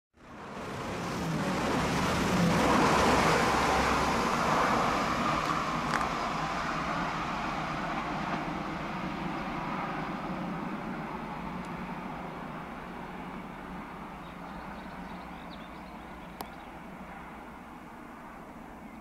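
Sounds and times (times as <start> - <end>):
train passing at speed: 0.3 - 18.9.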